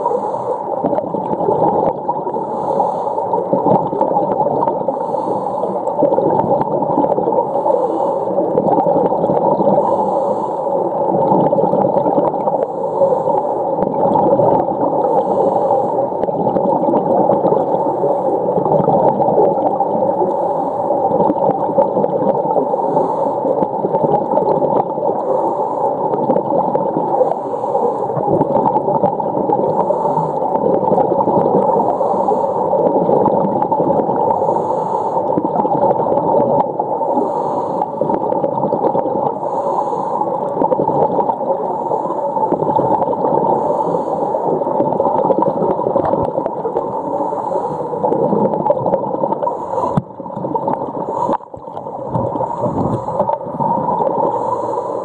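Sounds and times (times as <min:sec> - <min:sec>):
underwater water wash: 0:00.0 - 0:55.0.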